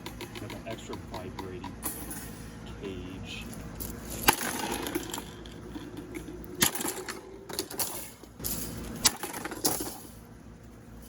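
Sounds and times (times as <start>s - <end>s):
fan cage rattling: 0.0s - 11.0s
table fan motor buzzing: 0.0s - 11.0s.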